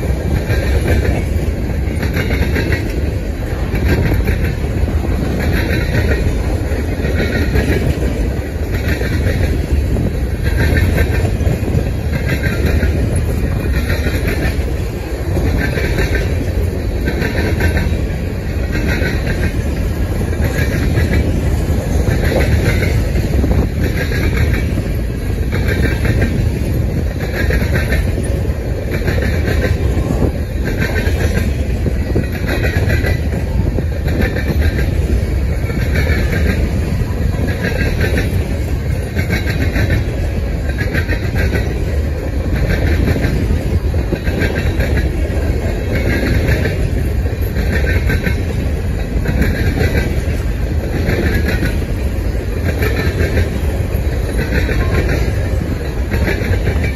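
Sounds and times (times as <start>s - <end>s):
rhythmic wheel clacking: 0.0s - 56.9s
train wheels rumbling on rail: 0.0s - 56.9s.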